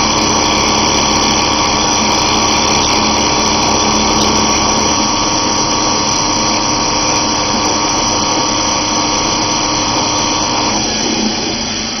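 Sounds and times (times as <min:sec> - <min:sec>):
wood router whining: 0:00.0 - 0:12.0.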